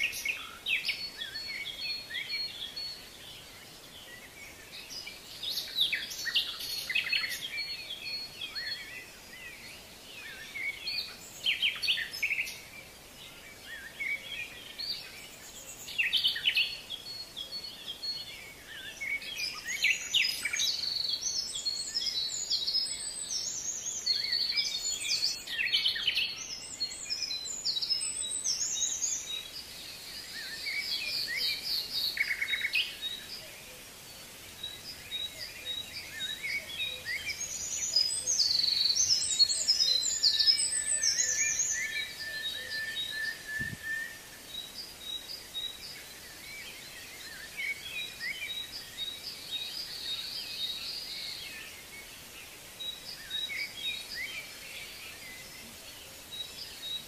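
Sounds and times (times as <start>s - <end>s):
faint steady hiss: 0.0s - 57.0s
songbirds chirping and singing: 0.0s - 57.0s.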